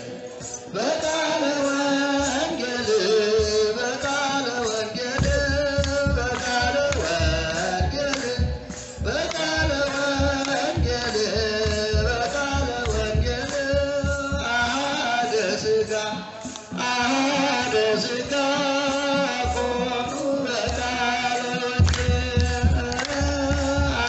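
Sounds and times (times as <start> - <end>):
clergy singing a hymn: 0.0 - 24.0
drum beating steady rhythm: 0.0 - 24.0.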